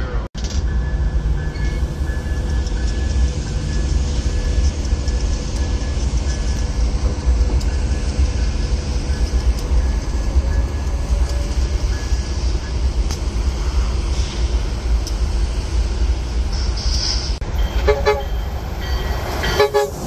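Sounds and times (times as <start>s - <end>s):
faint train whine: 0.0s - 20.0s
train rumbling down track: 0.0s - 20.0s.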